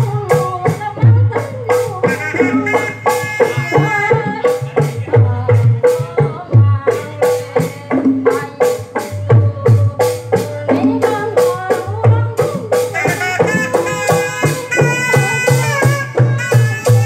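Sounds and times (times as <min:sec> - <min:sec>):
woman singing into microphone: 0:00.0 - 0:17.0.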